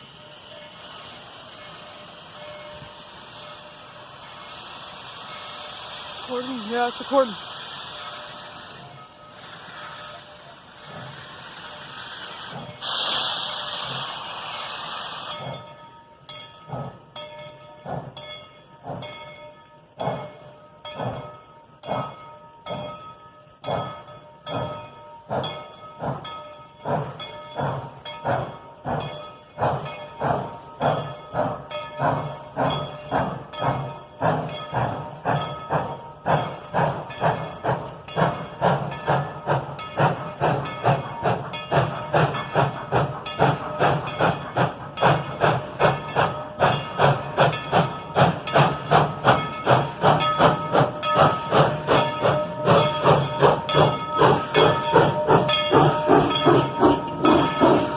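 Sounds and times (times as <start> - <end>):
steam locomotive exhaust chuffs: 0.0 - 57.9.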